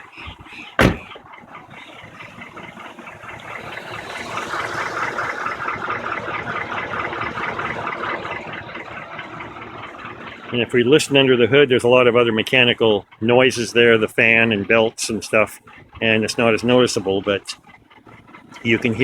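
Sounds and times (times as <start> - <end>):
car engine idling with knocking: 0.0 - 19.0.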